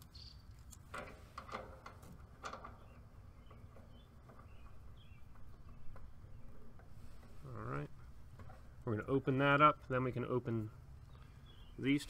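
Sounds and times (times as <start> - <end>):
small birds chirping: 0.0 - 0.8, 2.6 - 12.0.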